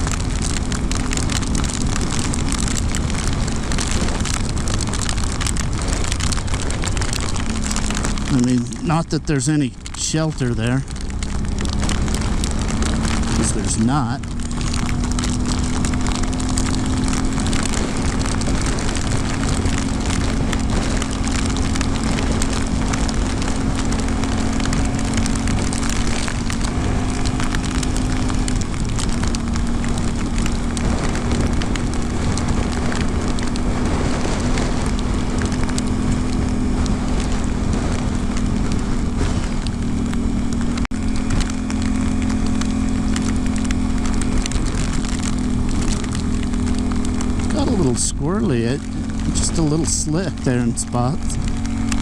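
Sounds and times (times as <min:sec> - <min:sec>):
motorcycle engine running: 0:00.0 - 0:52.0
wind and rain noise: 0:00.0 - 0:52.0.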